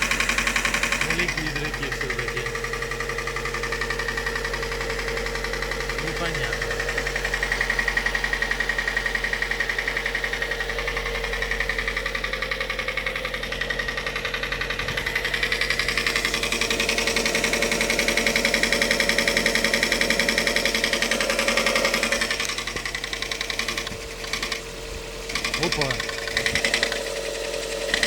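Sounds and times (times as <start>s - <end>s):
car engine running: 0.0s - 28.0s
engine ticking knock: 0.0s - 28.0s.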